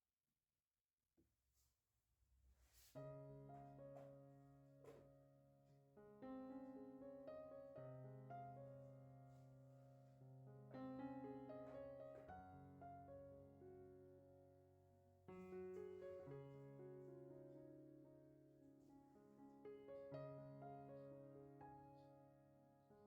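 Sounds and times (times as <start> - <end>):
soft piano chords: 3.0 - 23.0.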